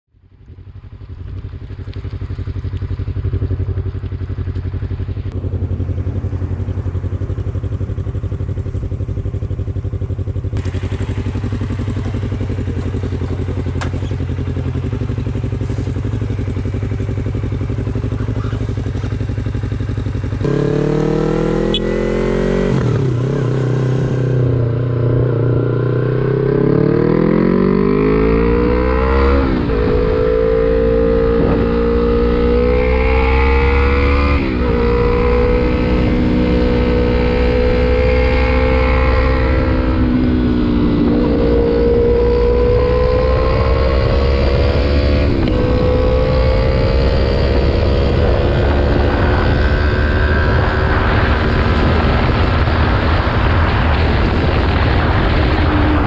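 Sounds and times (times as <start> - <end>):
motorcycle engine: 0.2 - 56.0.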